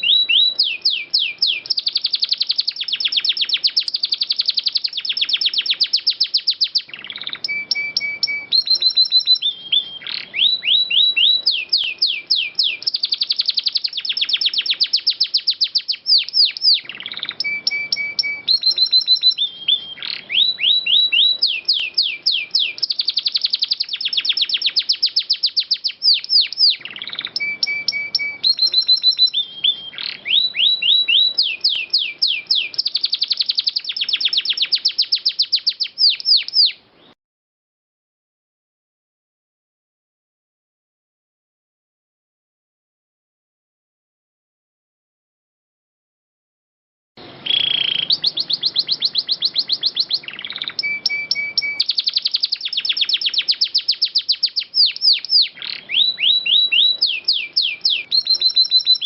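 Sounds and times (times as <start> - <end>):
canary singing trills: 0.0 - 37.2, 47.2 - 59.0.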